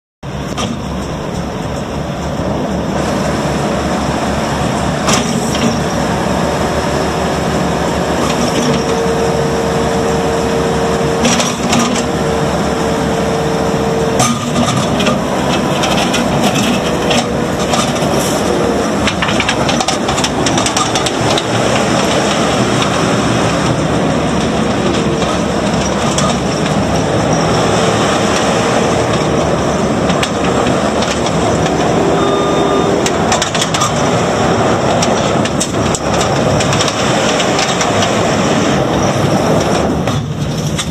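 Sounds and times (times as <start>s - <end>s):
diesel engine running: 0.2s - 40.9s
whine: 0.2s - 40.9s.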